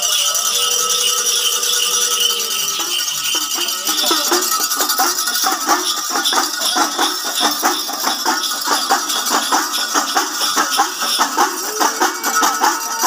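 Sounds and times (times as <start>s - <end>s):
bright metallic jingling: 0.0s - 13.0s
hand drums playing fast rhythm: 0.0s - 13.0s.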